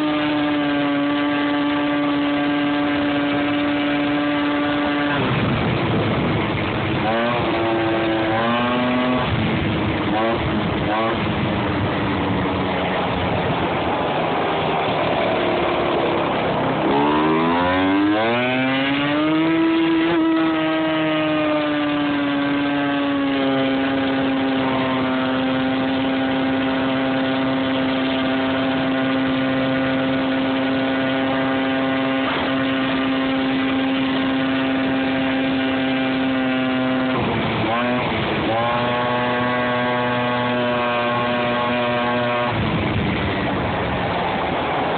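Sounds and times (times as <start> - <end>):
motor scooter engine: 0.0 - 44.9.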